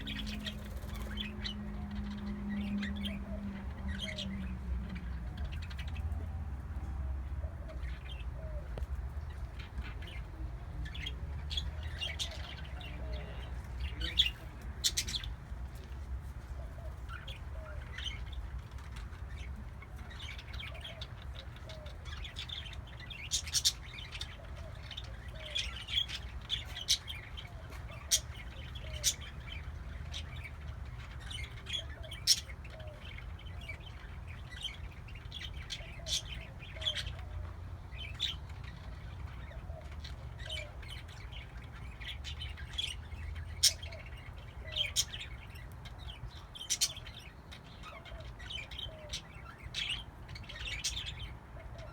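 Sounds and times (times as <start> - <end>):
parakeets chirping and squawking: 0.0 - 15.7, 16.7 - 51.9.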